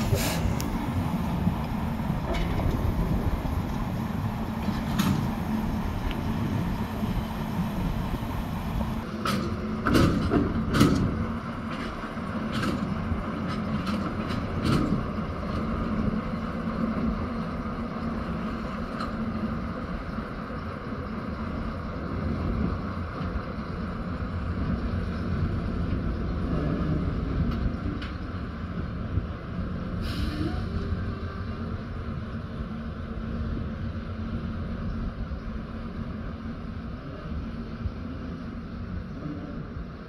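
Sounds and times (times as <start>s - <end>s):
diesel locomotive engine: 0.0s - 40.0s.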